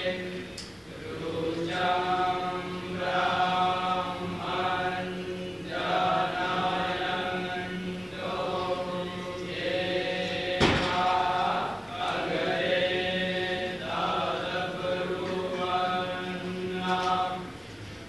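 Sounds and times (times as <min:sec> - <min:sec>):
men chanting verses: 0:00.0 - 0:17.5.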